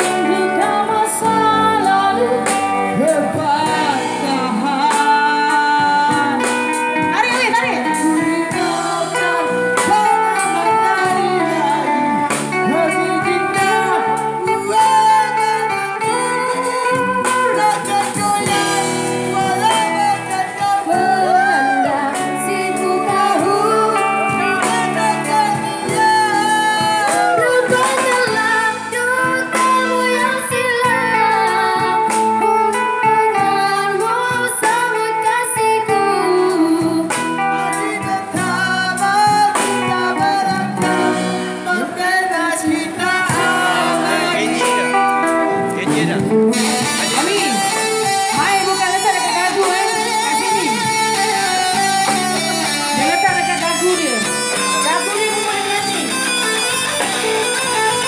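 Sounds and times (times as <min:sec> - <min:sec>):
man singing into a microphone: 0:00.0 - 0:06.8, 0:07.5 - 0:58.0
drum kit: 0:00.0 - 0:58.0
guitar: 0:00.0 - 0:58.0.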